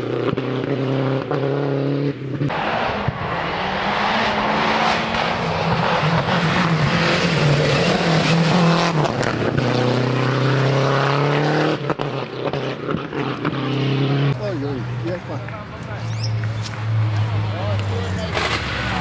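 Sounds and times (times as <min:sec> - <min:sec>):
rally car engine revving: 0:00.0 - 0:15.2, 0:16.2 - 0:19.0.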